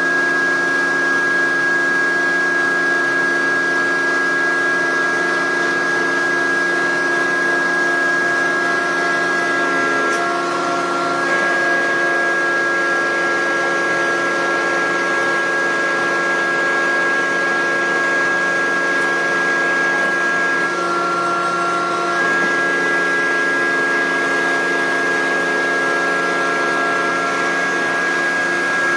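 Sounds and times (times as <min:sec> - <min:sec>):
machine high whine: 0:00.0 - 0:28.9
machine low hum: 0:02.3 - 0:28.9.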